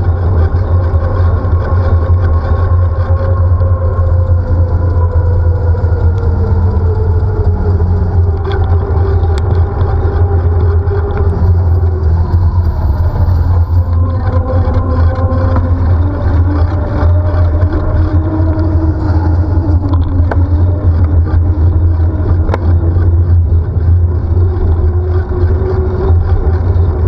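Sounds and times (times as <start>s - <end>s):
faint whine: 0.0s - 27.0s
wind and road rumble: 0.0s - 27.0s.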